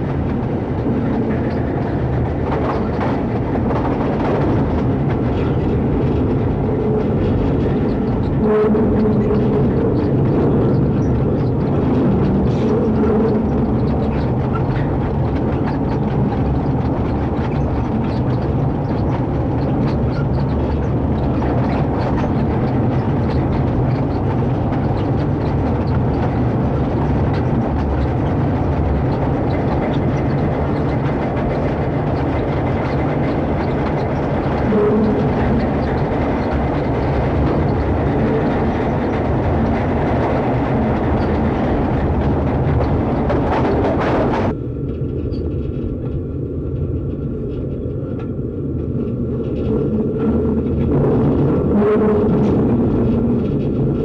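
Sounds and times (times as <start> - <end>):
faint clicking and rattling: 0.0 - 54.0
train wheels rumbling on rail: 0.0 - 54.0.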